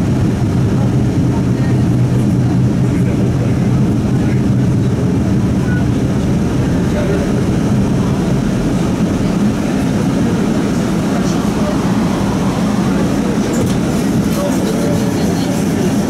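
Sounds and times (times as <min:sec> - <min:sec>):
streetcar rumbling on rails: 0:00.0 - 0:16.0.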